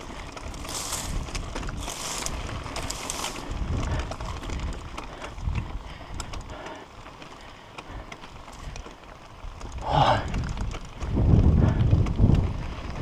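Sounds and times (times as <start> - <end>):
bike knocking and rattling: 0.0 - 13.0
bike tyres on loose dirt: 0.0 - 13.0.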